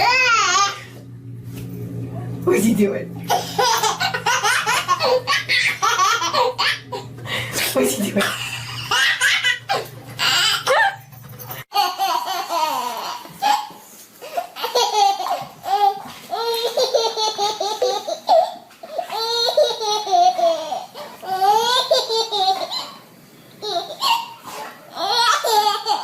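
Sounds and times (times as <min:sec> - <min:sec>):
small child laughing: 0:03.3 - 0:07.1, 0:08.2 - 0:11.0, 0:11.7 - 0:26.0.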